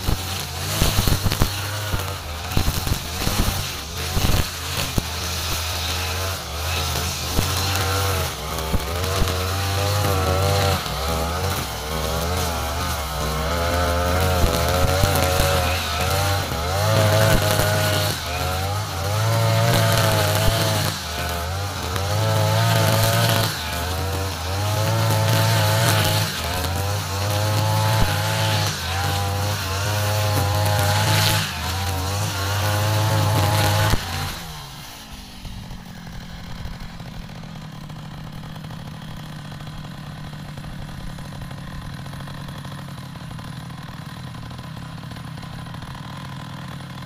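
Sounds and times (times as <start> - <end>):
brush cutter engine at high revs: 0.0 - 47.0
trimmer line cutting grass: 0.0 - 47.0.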